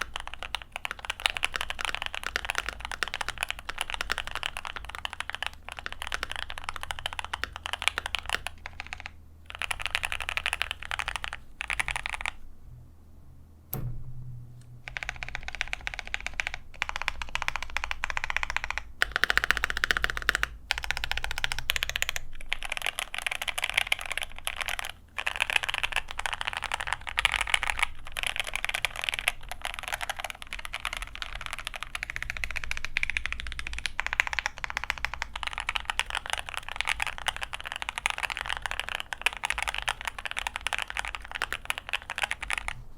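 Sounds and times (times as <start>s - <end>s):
mechanical keyboard typing: 0.0s - 12.4s, 14.9s - 42.8s.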